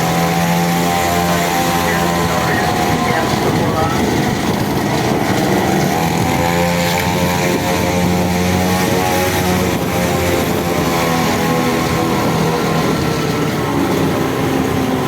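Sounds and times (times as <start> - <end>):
small two-stroke engine running: 0.0 - 15.0.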